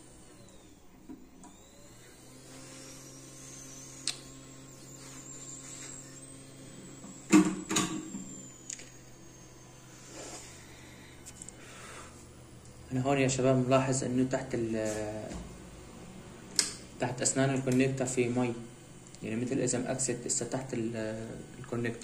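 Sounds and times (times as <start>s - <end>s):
small motor humming and whining: 0.0s - 22.0s.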